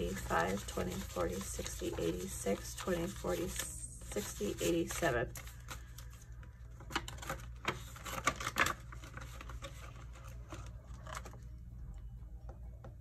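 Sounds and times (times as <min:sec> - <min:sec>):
banknotes and plastic pockets rustling: 0:00.0 - 0:11.6.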